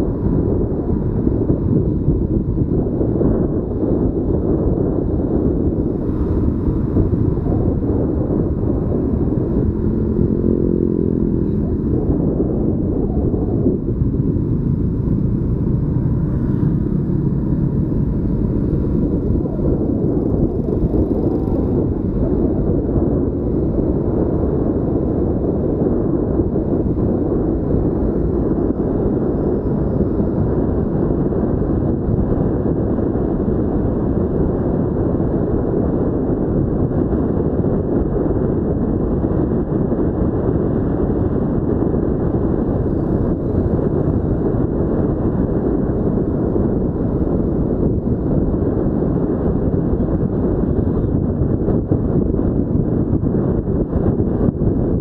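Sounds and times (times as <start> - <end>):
road and engine rumble: 0.0 - 55.0
wind buffeting microphone: 0.0 - 55.0.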